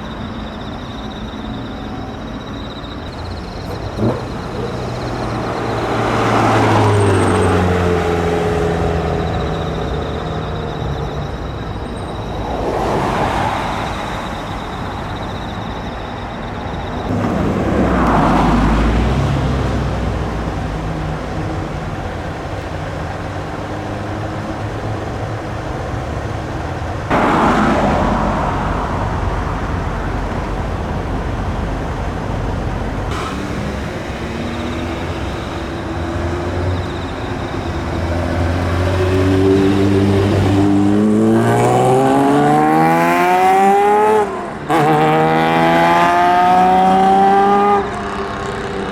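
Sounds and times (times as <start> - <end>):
cars driving past: 0.0 - 48.9
traffic rumble: 0.0 - 48.9.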